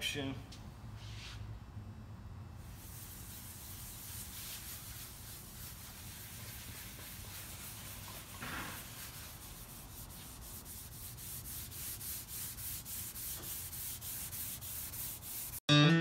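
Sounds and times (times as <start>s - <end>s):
steel wool scrubbing wood: 2.7s - 15.6s.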